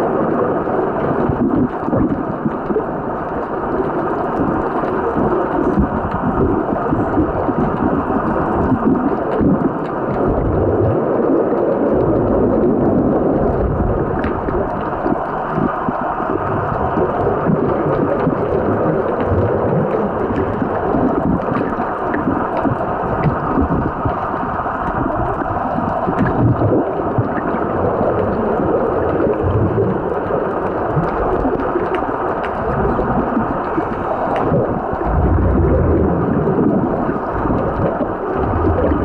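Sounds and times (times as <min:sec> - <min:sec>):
muffled underwater water rush: 0:00.0 - 0:39.0.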